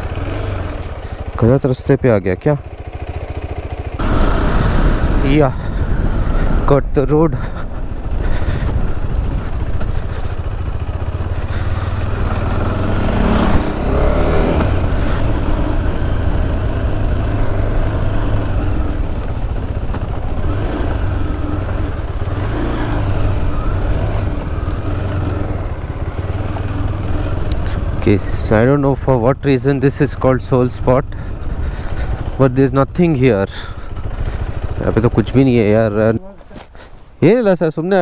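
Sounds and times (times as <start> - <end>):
motorcycle engine running: 0.0 - 37.2.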